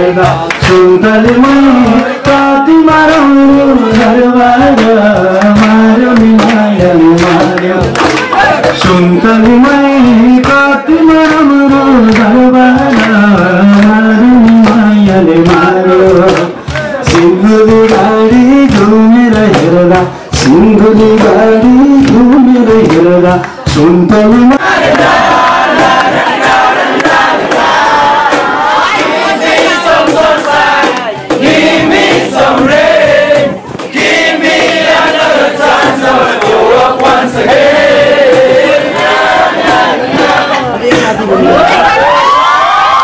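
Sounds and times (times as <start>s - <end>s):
drum beat: 0.0s - 43.0s
person singing: 0.0s - 43.0s.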